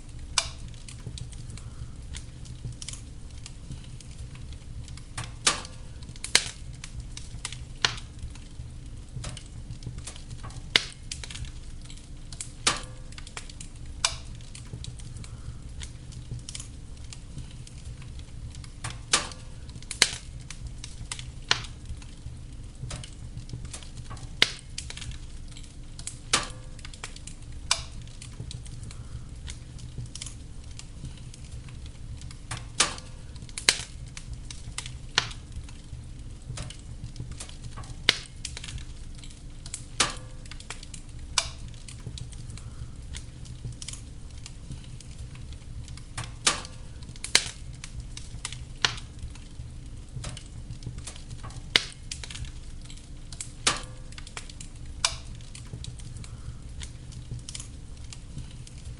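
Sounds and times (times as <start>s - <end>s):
fire crackling and popping: 0.0s - 58.9s
wood fire rumbling: 0.0s - 58.9s.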